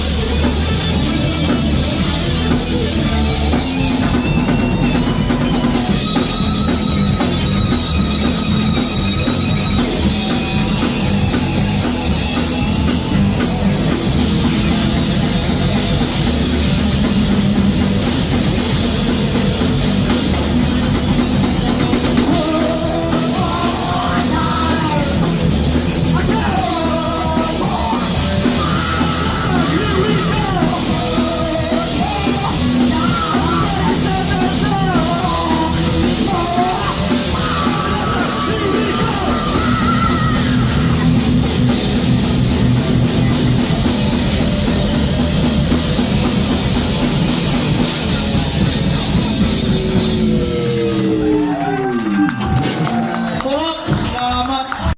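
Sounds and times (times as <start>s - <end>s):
thrash metal band playing: 0.0s - 54.9s
yelled vocals: 0.0s - 54.9s.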